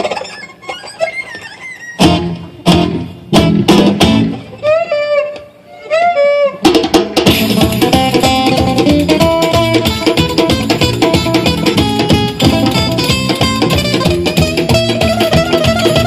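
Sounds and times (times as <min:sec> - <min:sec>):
solo guitar playing: 0:02.0 - 0:06.5, 0:07.3 - 0:16.0.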